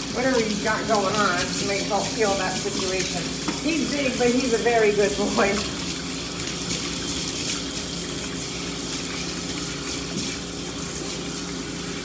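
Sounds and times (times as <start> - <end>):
pump humming: 0.0 - 12.0
water spraying from hose: 0.0 - 12.0.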